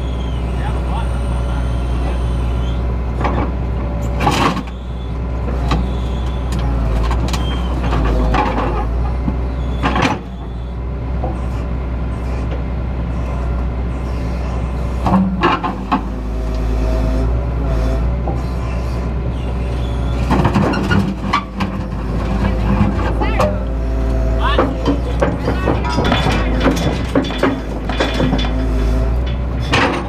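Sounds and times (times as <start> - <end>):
excavator engine droning: 0.0 - 30.0.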